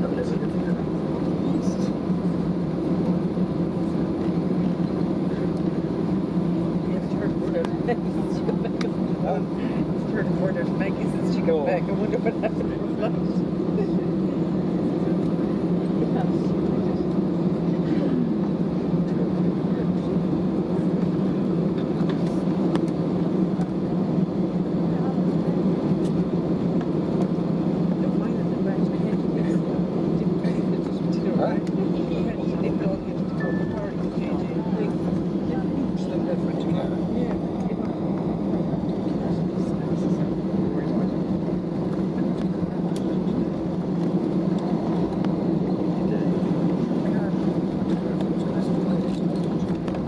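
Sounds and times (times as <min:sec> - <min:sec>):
airplane cabin hum: 0:00.0 - 0:50.0
engine and air-conditioning rumble: 0:00.0 - 0:50.0.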